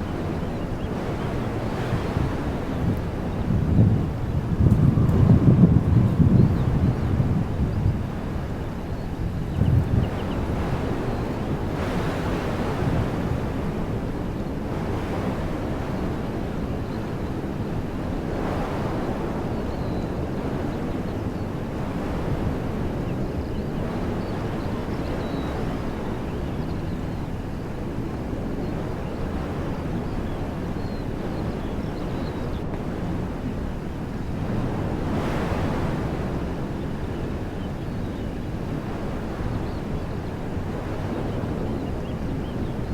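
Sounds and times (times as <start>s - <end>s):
wind buffeting microphone: 0.0s - 42.9s
wind rushing through trees: 0.0s - 42.9s.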